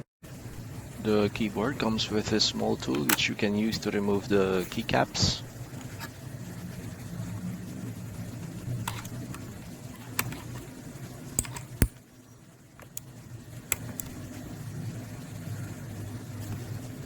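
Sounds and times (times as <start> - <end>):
low steady hum: 0.2 - 17.0.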